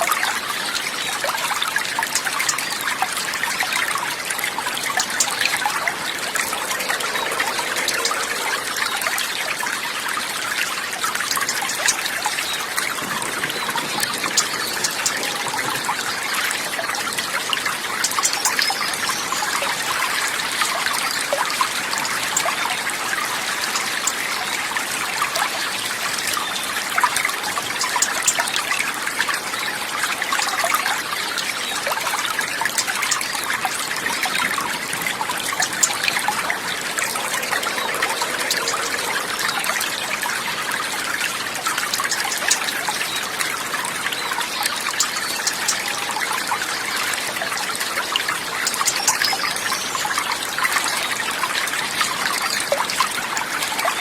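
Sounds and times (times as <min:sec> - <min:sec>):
water babbling over stones: 0:00.0 - 0:54.0.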